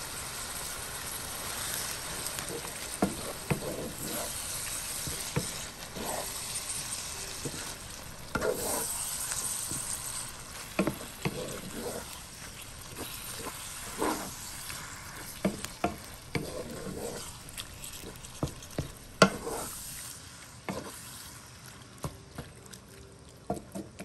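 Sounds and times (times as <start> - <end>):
spatula scraping skillet: 0.0 - 22.1
light sizzle: 0.0 - 24.0.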